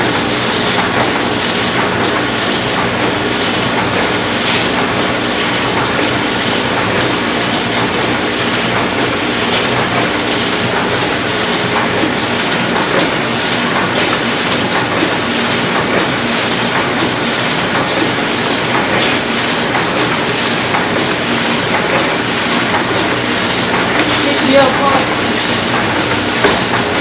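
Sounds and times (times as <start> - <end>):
printing press clattering: 0.0 - 27.0.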